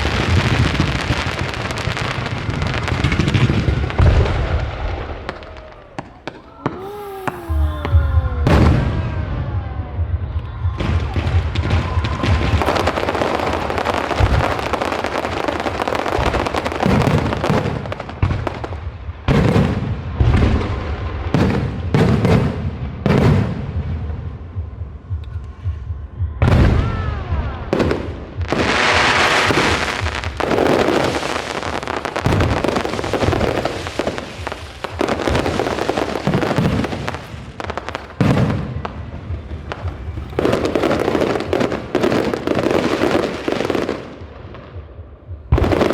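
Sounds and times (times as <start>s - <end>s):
fireworks crackling: 0.0s - 23.6s, 26.5s - 45.9s
fireworks bangs and booms: 0.0s - 45.9s.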